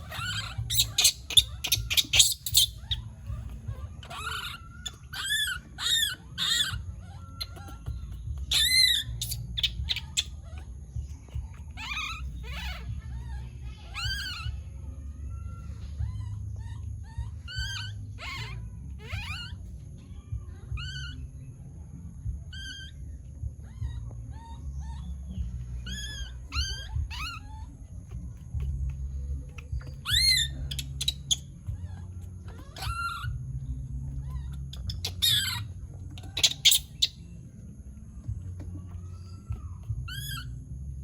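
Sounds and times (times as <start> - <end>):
baby monkey high-pitched calls: 0.0 - 21.6, 22.2 - 37.6, 38.2 - 41.0
low rumble: 0.0 - 41.0.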